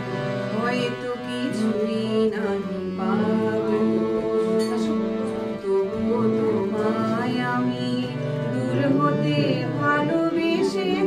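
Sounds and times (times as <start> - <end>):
harmonium chords: 0.0 - 11.0
woman singing: 0.5 - 11.0.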